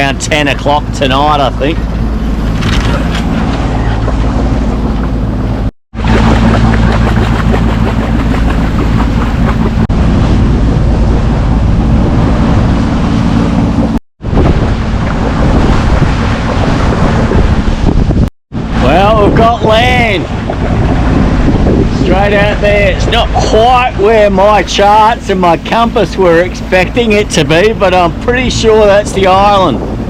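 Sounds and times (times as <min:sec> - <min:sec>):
boat engine drone: 0:00.0 - 0:30.0
water rushing past hull: 0:00.0 - 0:30.0
wind on microphone: 0:00.8 - 0:30.0.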